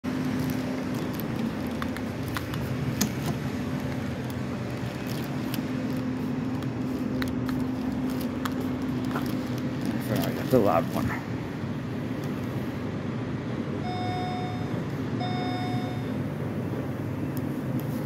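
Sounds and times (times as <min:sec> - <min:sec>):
low hum of traffic: 0:00.0 - 0:18.0.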